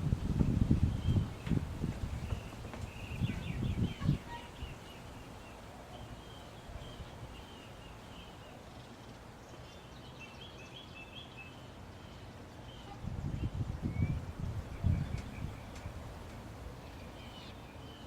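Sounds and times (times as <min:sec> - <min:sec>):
low steady background rumble: 0:00.0 - 0:18.0
faint bird chirping: 0:00.5 - 0:18.0.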